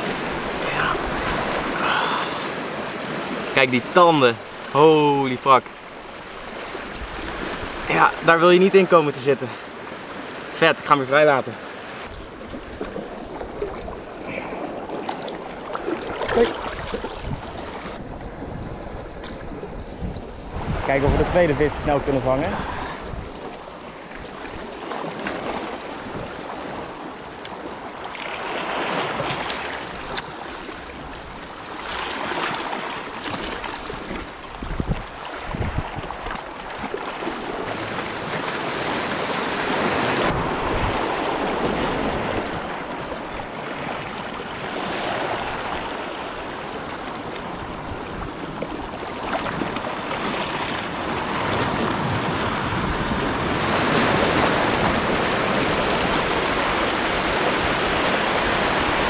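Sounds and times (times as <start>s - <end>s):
sea surf washing: 0.0s - 59.0s.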